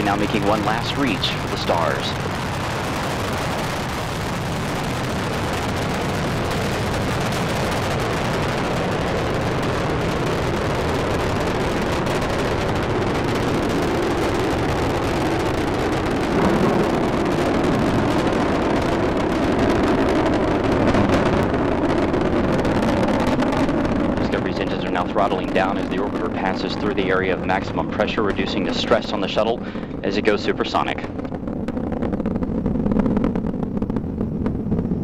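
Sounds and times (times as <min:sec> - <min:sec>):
rocket engines roaring: 0:00.0 - 0:35.0.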